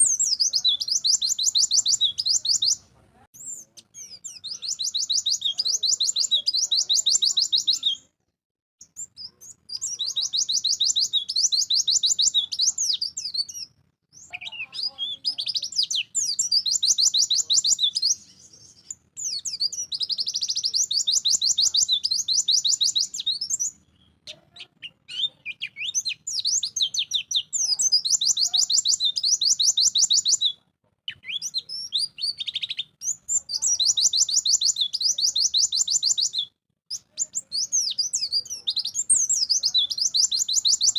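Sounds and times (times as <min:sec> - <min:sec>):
bird high chattering twitters: 0:00.0 - 0:02.8, 0:03.4 - 0:08.0, 0:08.8 - 0:40.9.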